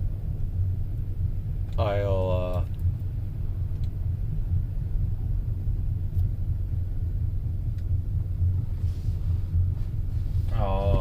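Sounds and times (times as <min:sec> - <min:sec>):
engine running with low rumble: 0:00.0 - 0:11.0.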